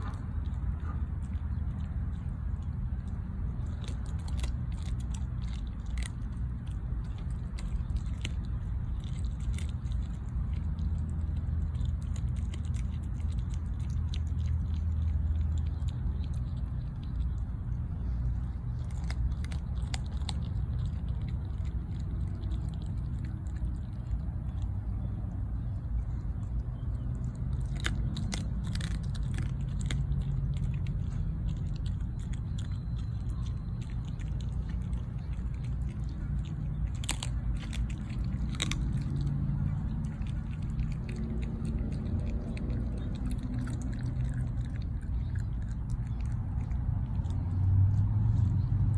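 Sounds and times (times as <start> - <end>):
bone crunching: 0.0 - 48.9
dog chewing wetly: 0.0 - 48.9
low rumble: 0.0 - 48.9.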